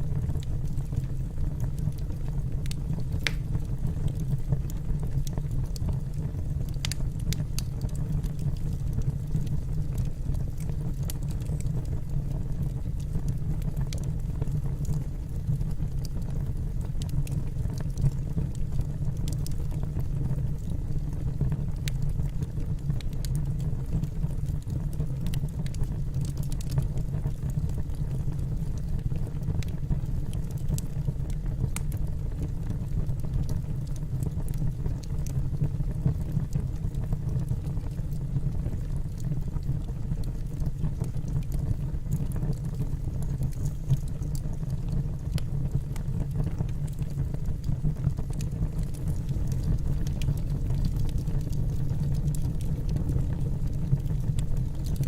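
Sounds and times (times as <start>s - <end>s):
flames rumbling: 0.0s - 55.0s
logs crackling and popping: 0.1s - 55.0s.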